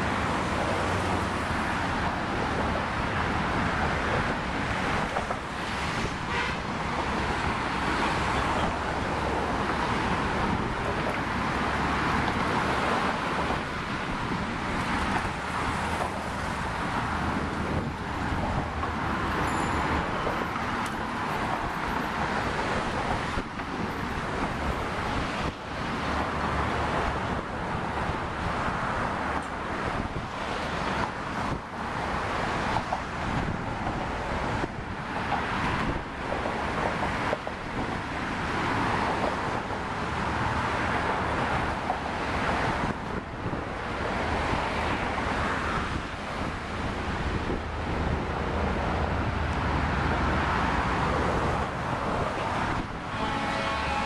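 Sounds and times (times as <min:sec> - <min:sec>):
road traffic noise: 0:00.0 - 0:54.0
wind rumbling on microphone: 0:08.6 - 0:19.3, 0:20.1 - 0:53.6.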